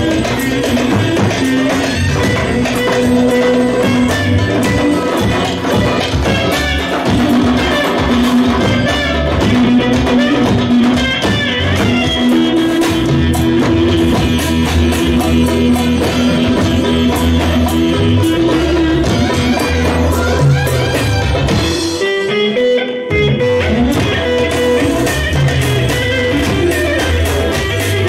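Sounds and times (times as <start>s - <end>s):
music with guitar and drums: 0.0s - 28.0s.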